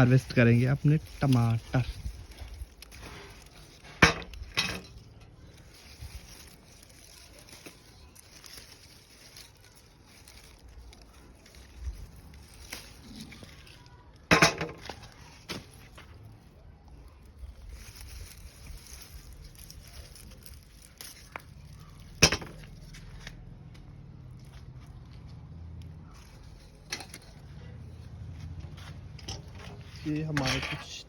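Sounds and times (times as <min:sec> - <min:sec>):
tomato plants rustling: 0:00.0 - 0:31.0.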